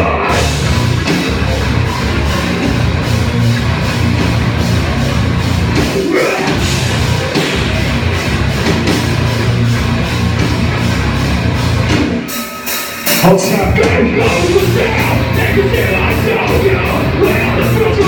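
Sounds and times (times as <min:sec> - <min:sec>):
live metal band playing: 0:00.0 - 0:18.0.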